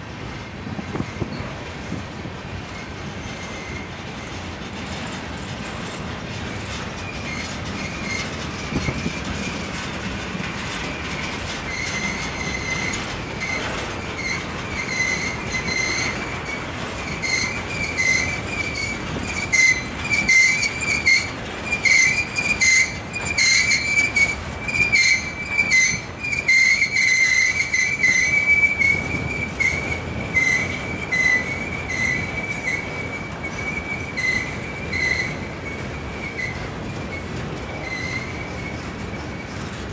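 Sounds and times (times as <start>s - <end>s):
wheels clicking over rail joints: 0.0s - 39.9s
high-pitched wheel squeal: 0.3s - 39.7s.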